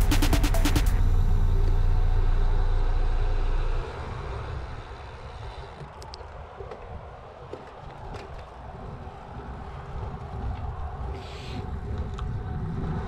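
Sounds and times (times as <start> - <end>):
wind rumbling on microphone: 1.0 - 13.0.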